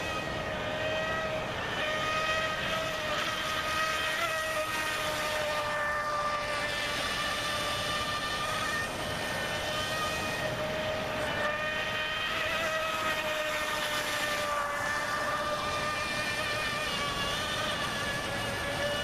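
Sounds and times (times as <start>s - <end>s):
electric motor high whine: 0.0s - 19.0s.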